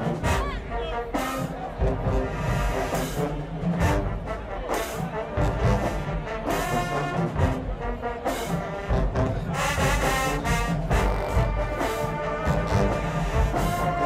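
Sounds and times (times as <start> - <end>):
marching band brass: 0.0 - 14.0
pounding drumline: 0.0 - 14.0.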